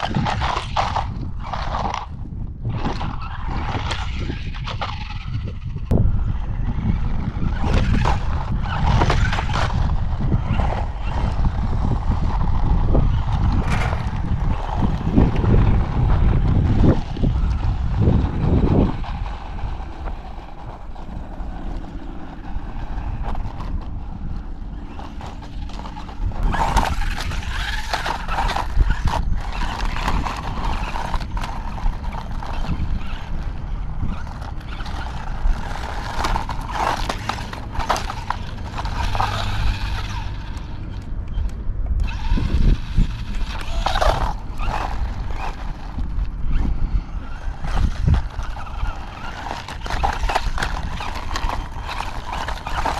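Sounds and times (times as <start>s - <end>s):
rc truck electric motor whining: 0.0s - 52.9s
wind rumble on microphone: 0.0s - 52.9s.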